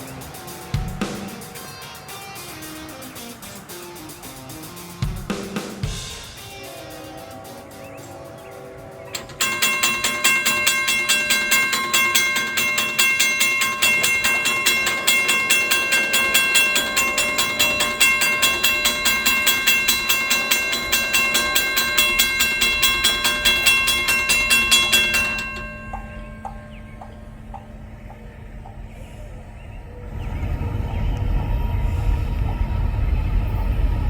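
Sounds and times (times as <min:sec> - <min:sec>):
crossing warning bell ringing: 0:00.0 - 0:34.0.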